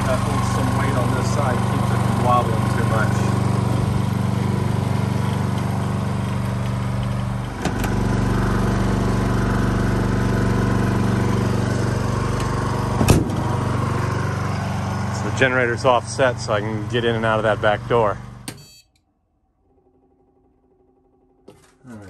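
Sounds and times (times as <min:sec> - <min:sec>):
generator engine hum: 0:00.0 - 0:18.6.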